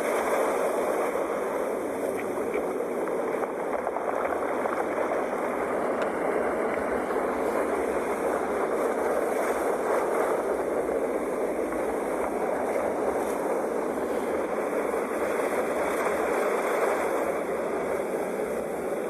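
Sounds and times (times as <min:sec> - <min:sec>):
sea waves washing onto shore: 0:00.0 - 0:19.0.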